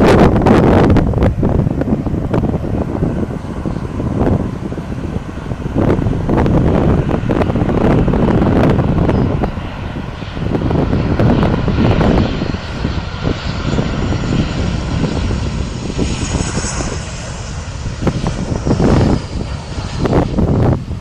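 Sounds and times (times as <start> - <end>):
jet airliner engines rumbling: 0.0 - 21.0
jet engine high whine: 0.0 - 21.0
wind buffeting microphone: 0.0 - 21.0.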